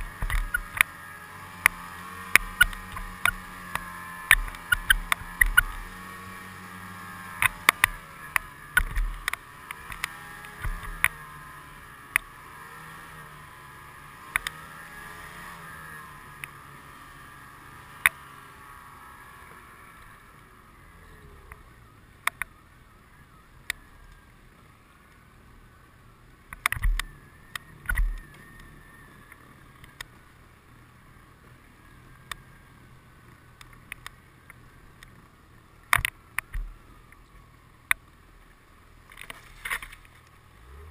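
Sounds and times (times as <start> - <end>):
snowmobile engine running: 0.0 - 38.2.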